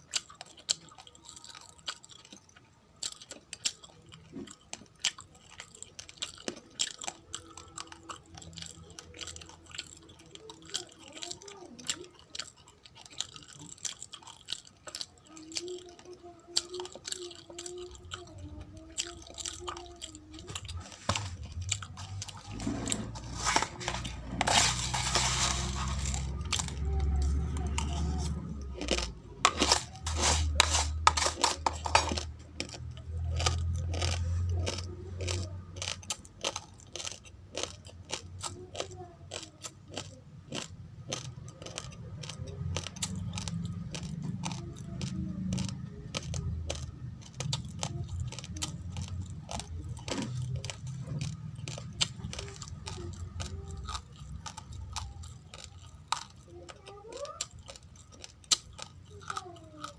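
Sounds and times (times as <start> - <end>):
rice grains being chewed: 0.0 - 59.9.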